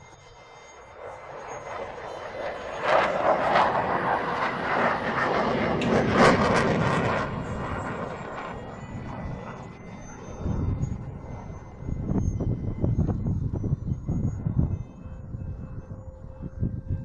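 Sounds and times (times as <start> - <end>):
model airplane flying past: 0.0 - 17.0.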